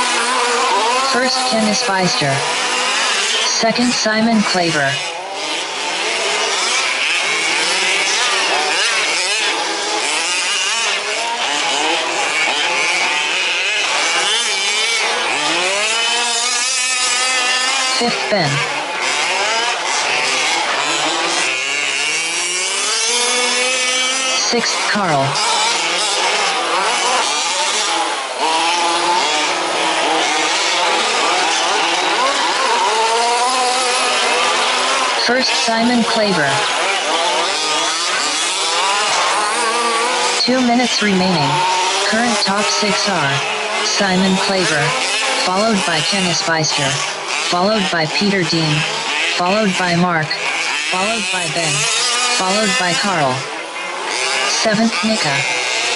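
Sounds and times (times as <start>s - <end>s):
small two-stroke engines revving: 0.0s - 55.9s.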